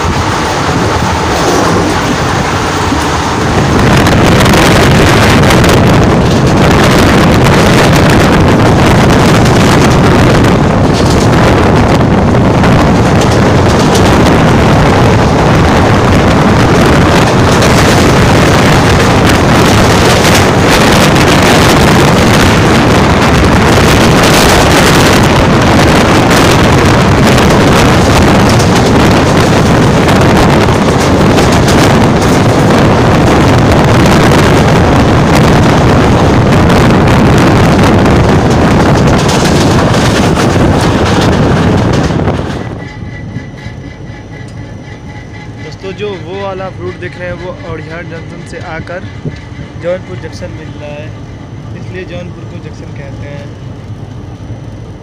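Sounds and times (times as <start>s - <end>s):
train rumble: 0.0s - 55.0s
wind buffeting microphone: 0.0s - 55.0s.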